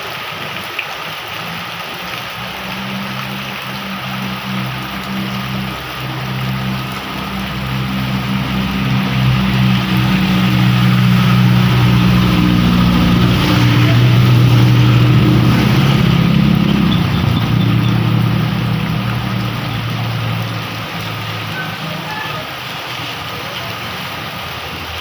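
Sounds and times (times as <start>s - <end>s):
heavy rain hissing: 0.0s - 25.0s
vehicle engine running: 1.6s - 21.9s.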